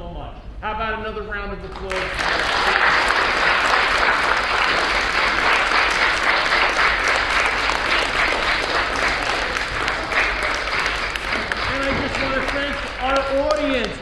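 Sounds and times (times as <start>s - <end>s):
children applauding: 1.9s - 13.9s.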